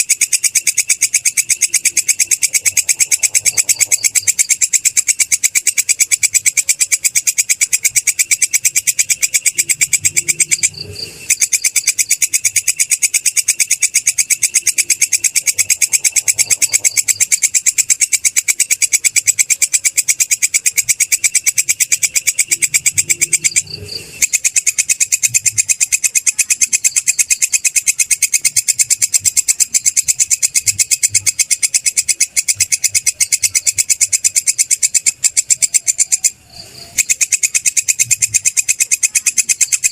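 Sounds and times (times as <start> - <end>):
grasshopper stridulating: 0.0 - 39.9.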